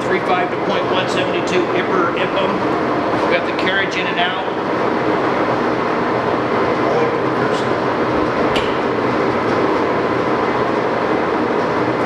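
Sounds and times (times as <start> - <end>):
engine lathe running: 0.0 - 12.0.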